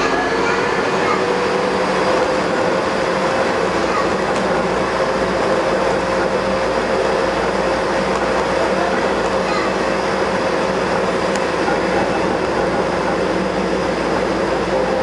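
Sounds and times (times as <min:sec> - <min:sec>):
metro train rumble with whine: 0:00.0 - 0:15.0.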